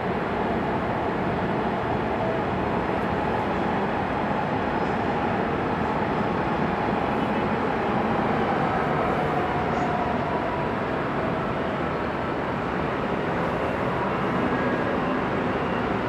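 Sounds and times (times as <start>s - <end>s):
highway traffic: 0.0s - 16.0s.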